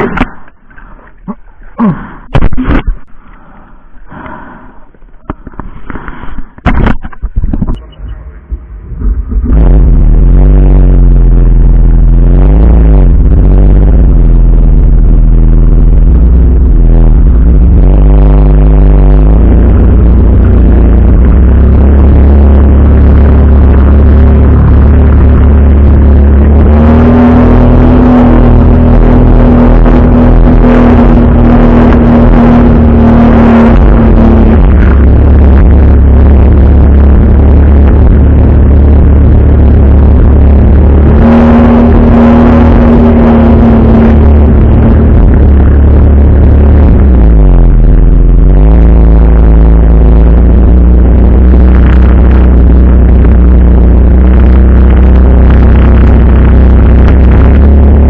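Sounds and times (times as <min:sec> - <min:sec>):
jet ski engine: 0:08.1 - 0:58.0.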